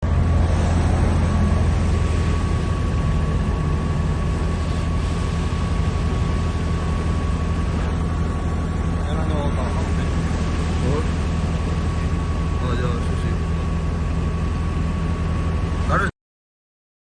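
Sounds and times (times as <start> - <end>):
engine rumble: 0.0 - 16.1
faint high whine: 0.0 - 16.1.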